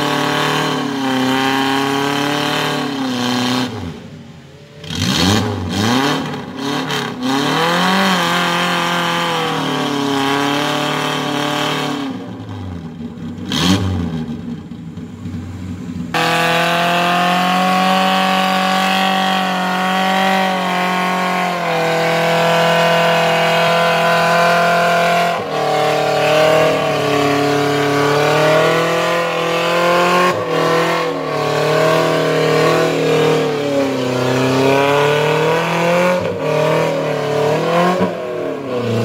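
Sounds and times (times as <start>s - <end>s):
engine revving hard: 0.0s - 4.0s, 4.8s - 12.4s, 13.4s - 14.3s, 16.1s - 39.0s.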